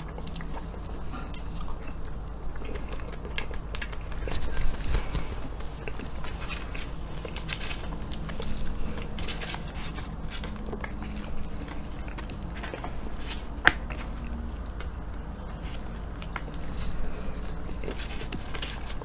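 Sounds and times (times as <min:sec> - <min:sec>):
person chewing and smacking: 0:00.0 - 0:19.0.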